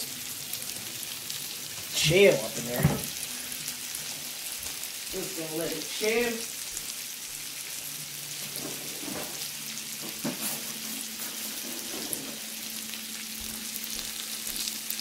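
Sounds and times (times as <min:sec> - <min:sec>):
food sizzling on a grill plate: 0:00.0 - 0:15.0.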